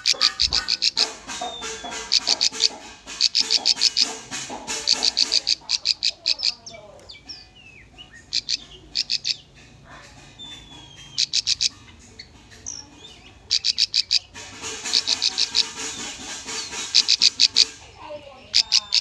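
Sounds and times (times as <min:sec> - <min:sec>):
background hiss: 0:00.0 - 0:19.0
bird sharp high chip notes: 0:00.0 - 0:19.0.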